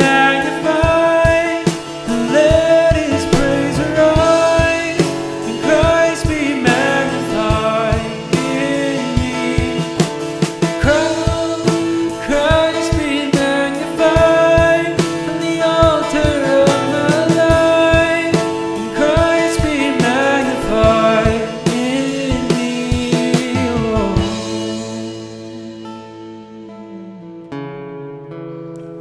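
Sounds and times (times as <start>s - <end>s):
drum hits: 0.0s - 25.8s
person singing wordless lines: 0.0s - 27.8s
guitar chords: 0.0s - 29.0s.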